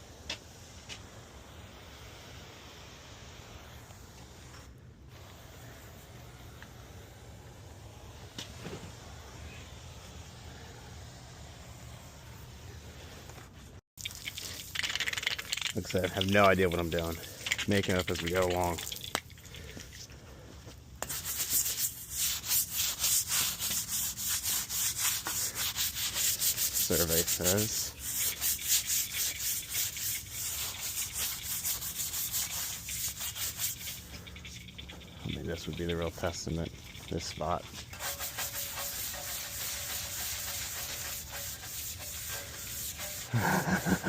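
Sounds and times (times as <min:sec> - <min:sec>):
pressure washer spraying: 0:00.0 - 0:13.4, 0:21.1 - 0:44.0
hand tool scrubbing concrete: 0:00.0 - 0:20.0, 0:21.0 - 0:44.0.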